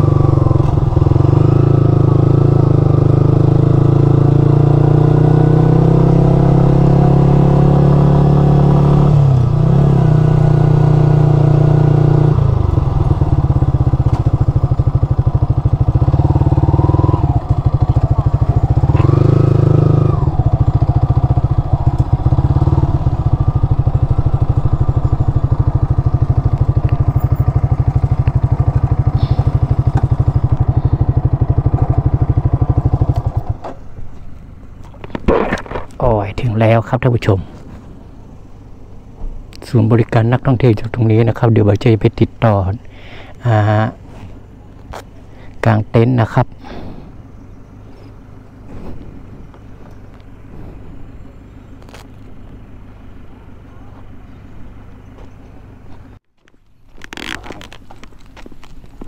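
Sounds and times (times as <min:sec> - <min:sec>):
motorcycle engine running at low speed: 0:00.0 - 0:36.1, 0:42.9 - 0:59.0.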